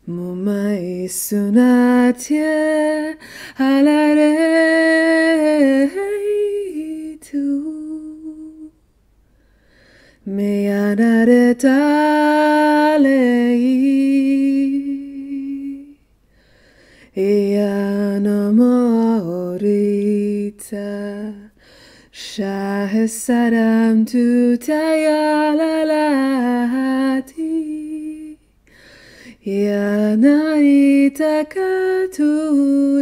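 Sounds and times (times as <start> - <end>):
woman singing unaccompanied: 0.0 - 8.8, 10.2 - 16.0, 17.1 - 28.6, 29.3 - 33.0.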